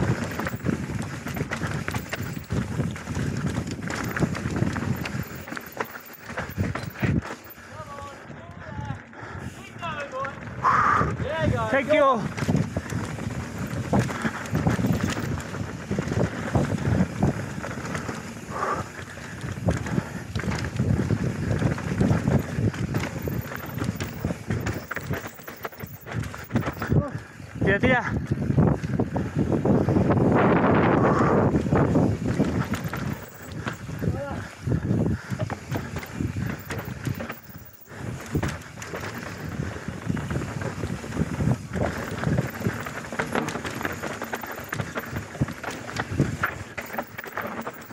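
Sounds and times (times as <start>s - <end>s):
wind on microphone: 0.0s - 5.6s, 10.4s - 47.6s
bike knocking and rattling: 0.0s - 10.6s, 11.2s - 47.9s
bike tyres rolling over dirt: 0.0s - 47.9s.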